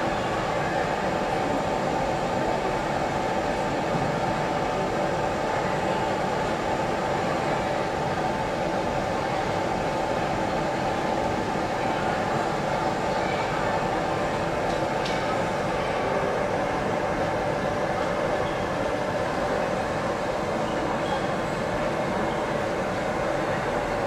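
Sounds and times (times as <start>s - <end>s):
restaurant room noise: 0.0s - 24.0s.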